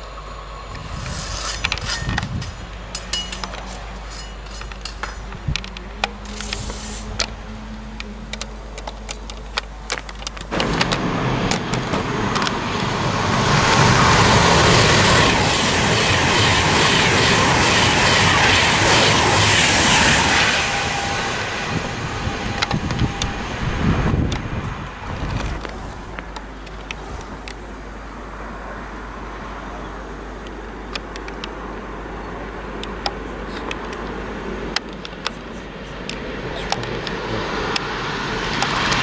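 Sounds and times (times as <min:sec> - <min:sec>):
express train passing at speed: 0:00.0 - 0:39.0
low steady hum: 0:00.0 - 0:39.0.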